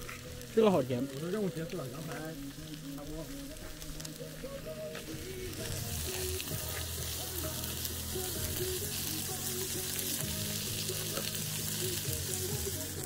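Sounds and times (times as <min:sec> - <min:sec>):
meat sizzling on a hotplate: 0:00.0 - 0:13.0.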